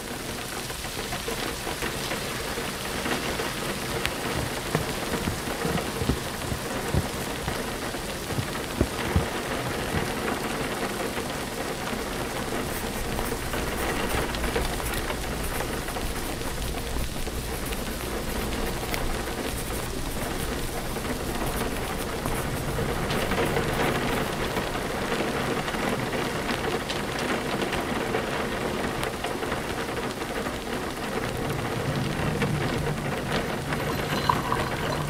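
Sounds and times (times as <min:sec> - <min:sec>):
steady rain falling: 0:00.0 - 0:35.0
raindrops tapping: 0:00.3 - 0:35.0.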